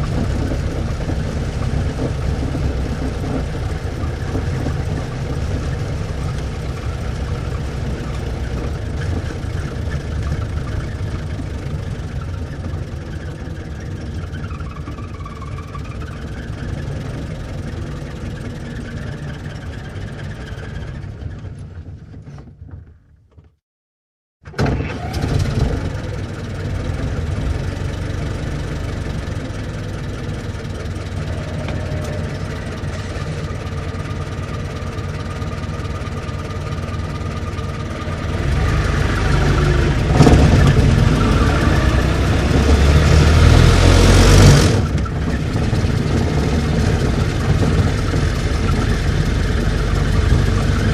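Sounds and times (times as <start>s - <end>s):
old car engine running: 0.0s - 23.5s, 24.5s - 50.9s.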